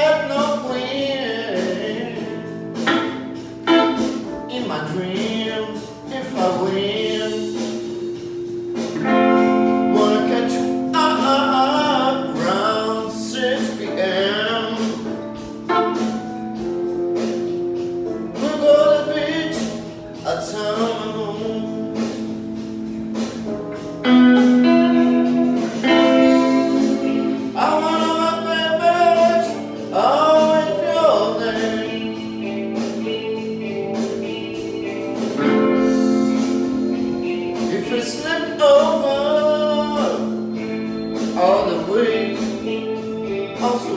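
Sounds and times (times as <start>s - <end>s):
held chords: 0.0s - 43.9s
person singing blues melody: 0.0s - 43.9s.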